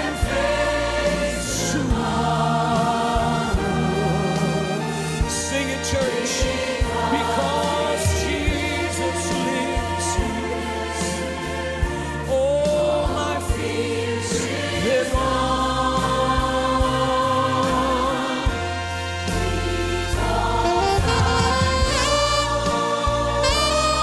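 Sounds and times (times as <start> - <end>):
band with bass: 0.0 - 24.0
choir singing sustained lines: 0.0 - 24.0.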